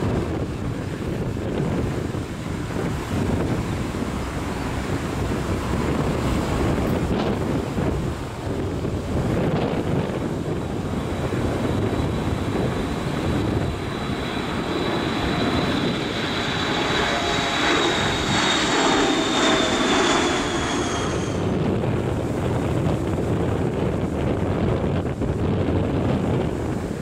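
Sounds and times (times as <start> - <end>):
jet roar with high whine: 0.0 - 27.0
wind on microphone: 0.0 - 27.0.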